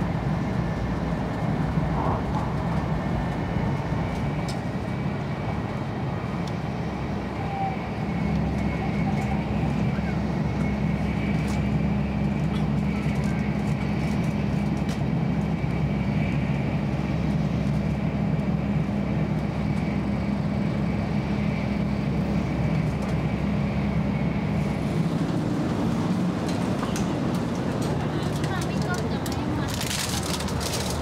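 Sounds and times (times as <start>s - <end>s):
train rumble inside carriage: 0.0s - 31.0s.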